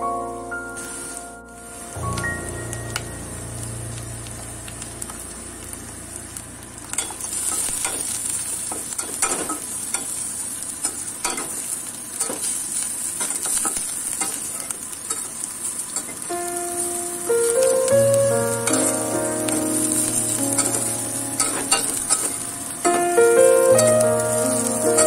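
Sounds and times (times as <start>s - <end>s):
spices sizzling in hot oil: 0.8s - 25.0s.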